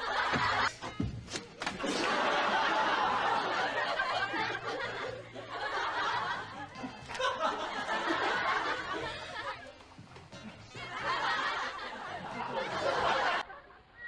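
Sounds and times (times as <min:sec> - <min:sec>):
audience laughter: 0:00.0 - 0:00.8, 0:01.8 - 0:14.0.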